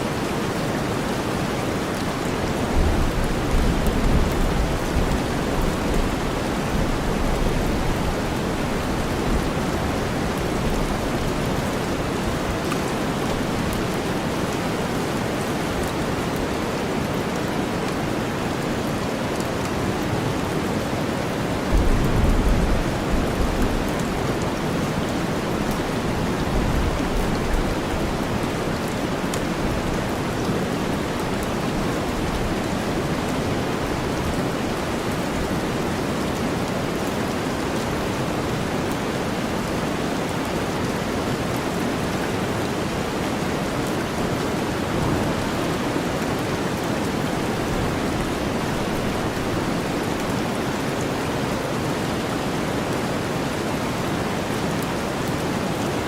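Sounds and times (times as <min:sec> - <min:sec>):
rain: 0:00.0 - 0:56.0.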